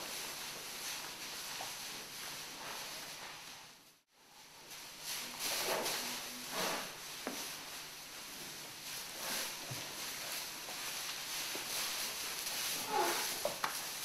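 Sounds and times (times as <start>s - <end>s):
hooves shuffling through straw: 0.0s - 14.0s.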